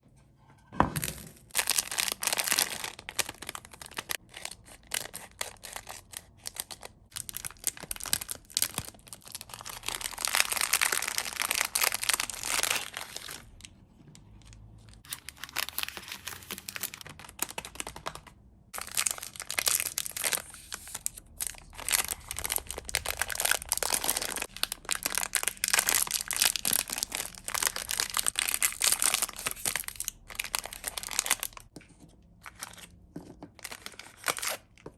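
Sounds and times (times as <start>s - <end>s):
plastic wrappers crinkling: 1.5s - 31.7s.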